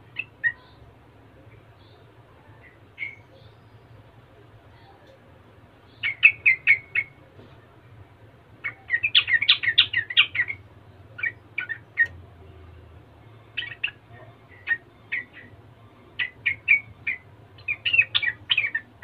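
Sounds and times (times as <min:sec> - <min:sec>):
bird chirping song: 0:00.0 - 0:07.5, 0:08.5 - 0:19.0.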